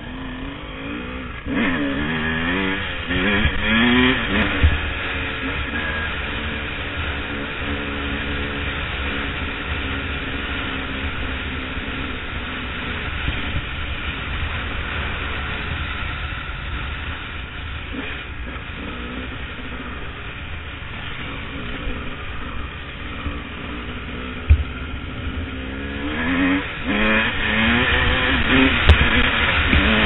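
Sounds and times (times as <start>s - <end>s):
dirt bike engine cruising: 0.0s - 30.0s
wind rushing on microphone: 1.2s - 11.0s, 11.6s - 30.0s.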